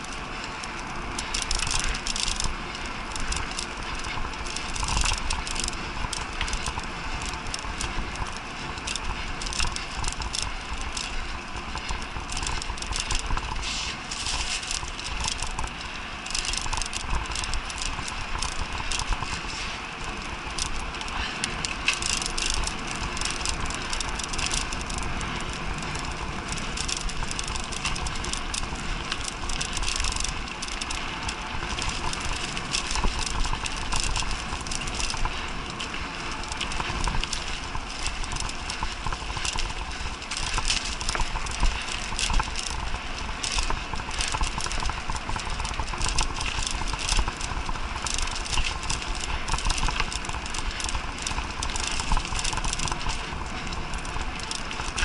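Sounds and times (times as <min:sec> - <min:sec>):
bike rattling and clicking: 0:00.0 - 0:55.0
tyres rumbling on dirt: 0:00.0 - 0:55.0.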